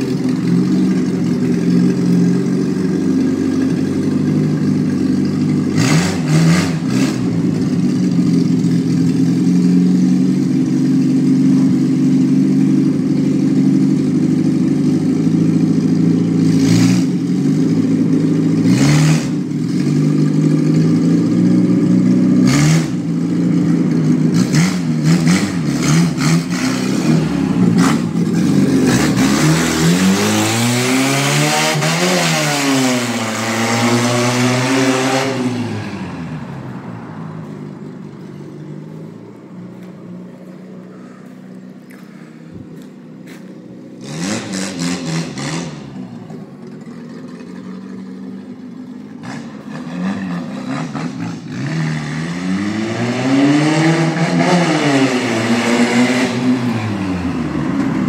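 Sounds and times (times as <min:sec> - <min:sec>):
vehicle engine running: 0:00.0 - 0:52.8, 0:54.0 - 0:58.0.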